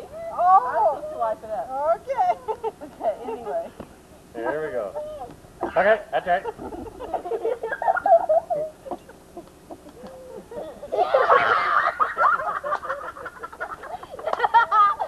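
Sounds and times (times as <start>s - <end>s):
group laughing and calling out: 2.0s - 3.8s, 4.4s - 15.0s.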